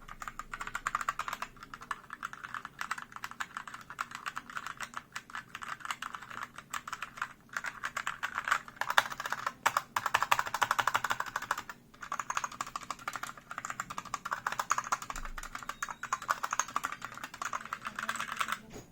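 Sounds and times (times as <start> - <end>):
fast mechanical keyboard typing: 0.0 - 18.7.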